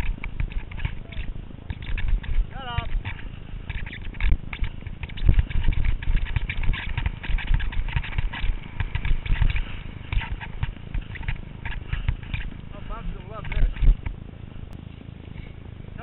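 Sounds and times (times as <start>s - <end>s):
edges scraping over snow: 0.0s - 14.0s
wind rumbling on camera: 0.0s - 16.0s.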